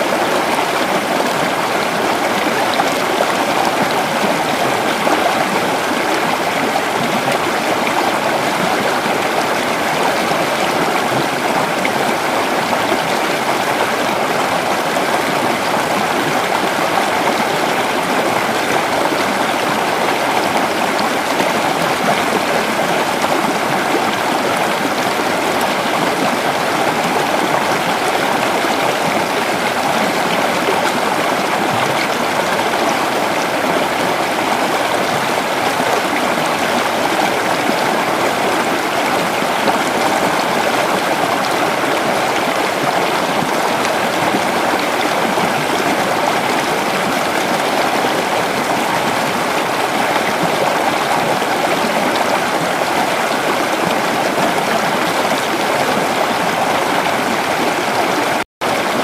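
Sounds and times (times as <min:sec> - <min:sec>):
creek water flowing over rocks: 0:00.0 - 0:59.0.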